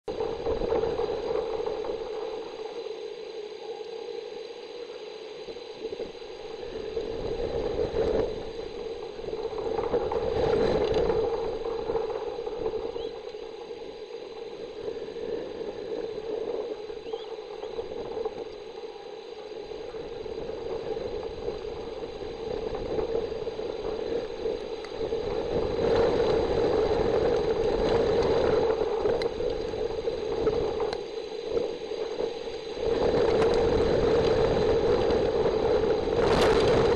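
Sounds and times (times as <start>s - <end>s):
rain: 0.0s - 36.9s
rushing wind: 0.0s - 36.9s
wind buffeting microphone: 0.1s - 2.7s, 5.5s - 36.9s.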